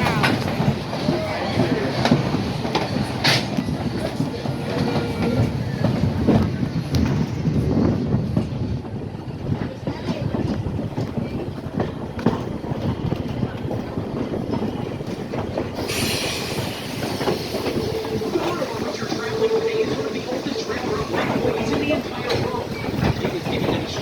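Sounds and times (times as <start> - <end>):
train wheels rumbling on track: 0.0 - 24.0
wheels clicking over rail joints: 0.0 - 24.0.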